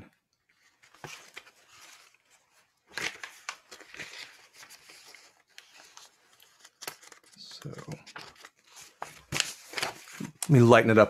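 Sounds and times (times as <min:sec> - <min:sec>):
paper rustling and crinkling: 0:00.4 - 0:10.7.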